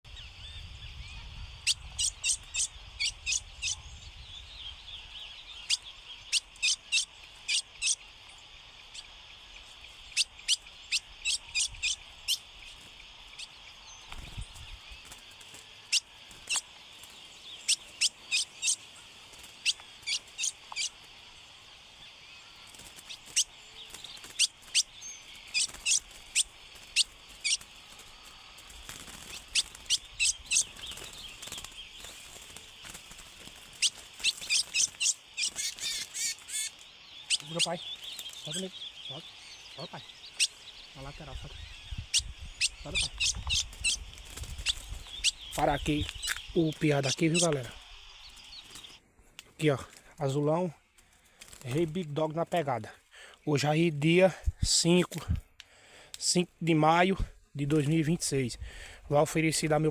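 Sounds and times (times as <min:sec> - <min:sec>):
bird chip calls: 0:00.1 - 0:49.0
high insect-like hiss: 0:00.1 - 0:59.9.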